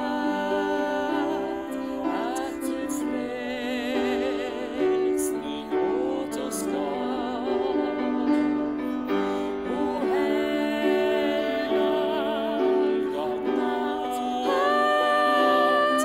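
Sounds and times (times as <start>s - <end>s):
woman singing with vibrato: 0.0s - 16.0s.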